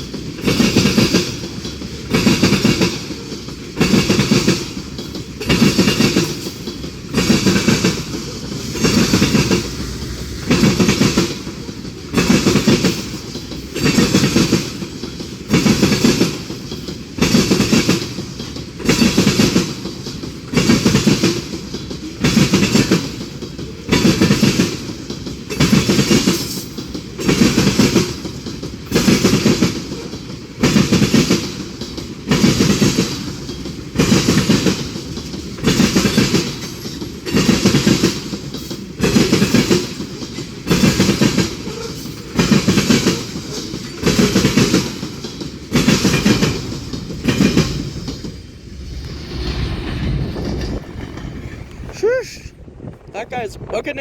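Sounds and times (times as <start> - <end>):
train wheels clattering over rail joints: 0.0 - 53.1.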